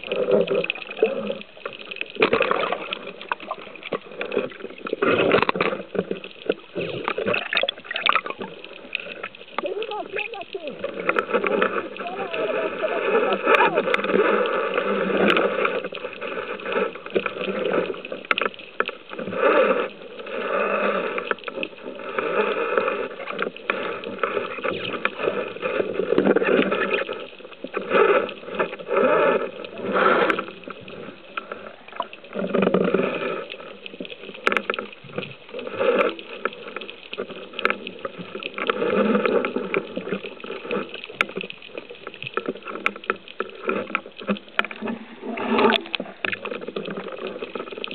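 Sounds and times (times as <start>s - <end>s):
muffled underwater water noise: 0.0s - 47.9s.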